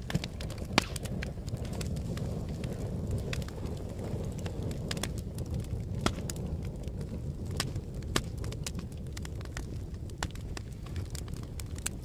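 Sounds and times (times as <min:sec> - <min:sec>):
fire crackling: 0:00.0 - 0:12.0.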